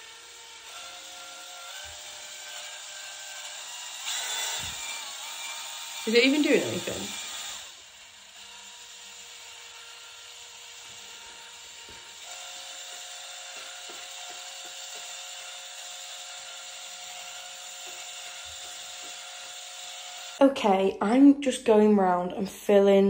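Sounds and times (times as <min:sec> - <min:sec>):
electric drill motor whine: 0:00.0 - 0:20.4.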